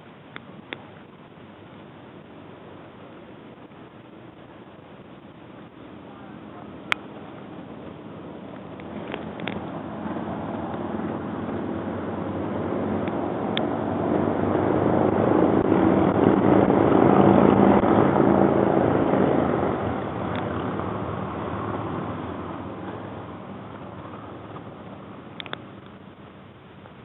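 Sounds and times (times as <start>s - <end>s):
aircraft engine drone: 0.0s - 27.0s.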